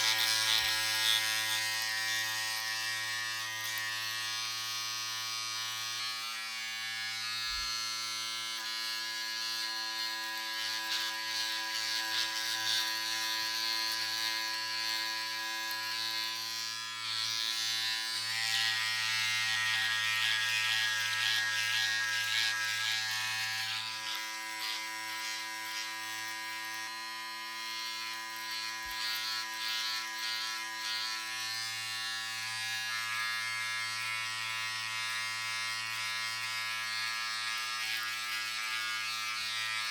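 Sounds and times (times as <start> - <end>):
electric razor buzzing: 0.0 - 39.9.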